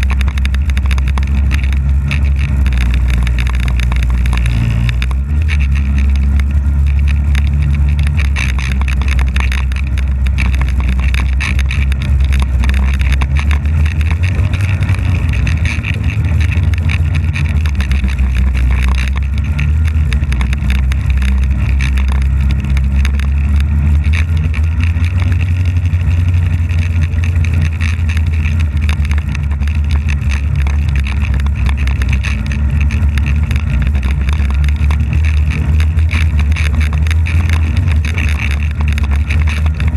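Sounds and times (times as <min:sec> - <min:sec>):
snowmobile engine droning: 0:00.0 - 0:39.9.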